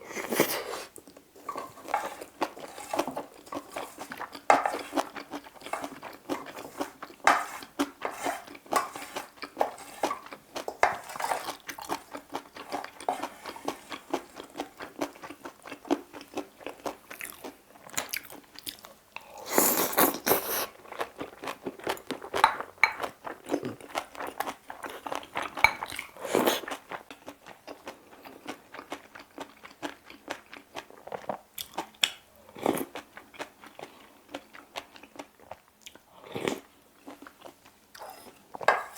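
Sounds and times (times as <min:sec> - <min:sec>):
person chewing and crunching food: 0:00.0 - 0:38.7.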